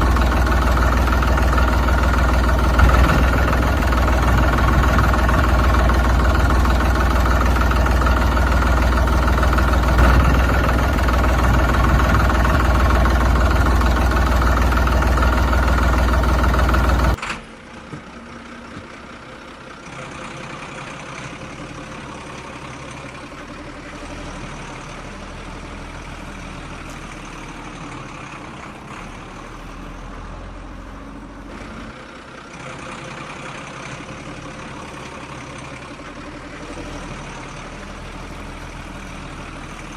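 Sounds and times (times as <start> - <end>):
loud engine running: 0.0 - 39.9.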